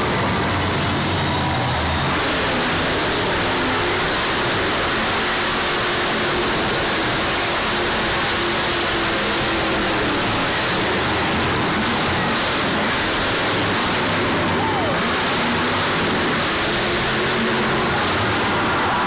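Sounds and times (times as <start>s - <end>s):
monster truck engine running: 0.0s - 19.0s.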